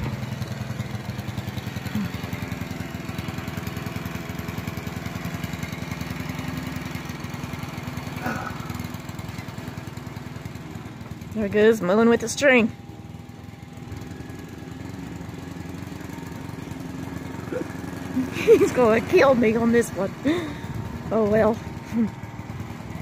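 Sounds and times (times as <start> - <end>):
lawn mower engine chugging: 0.0 - 23.0.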